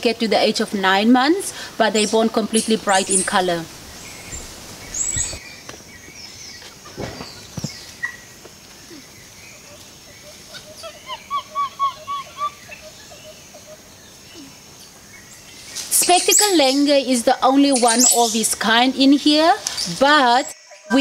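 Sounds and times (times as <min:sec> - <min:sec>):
bird calling: 0:01.5 - 0:18.6.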